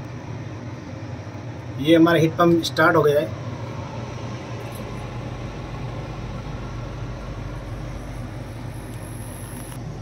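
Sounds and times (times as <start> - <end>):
heat pump humming: 0.0 - 10.0.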